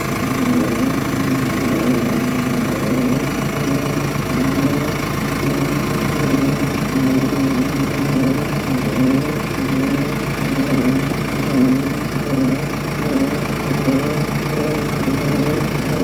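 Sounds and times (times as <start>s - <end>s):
engine idling: 0.0s - 16.0s
unidentified engine noise: 0.0s - 16.0s.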